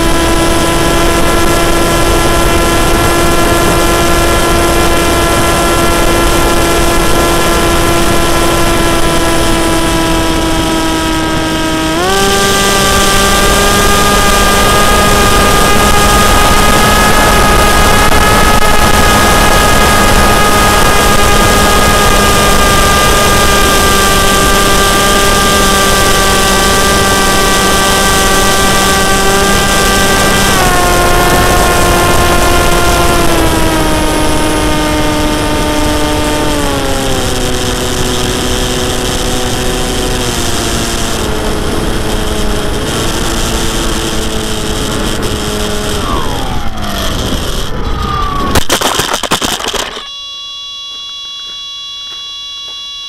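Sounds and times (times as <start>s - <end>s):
model aircraft motor whine: 0.0s - 53.0s.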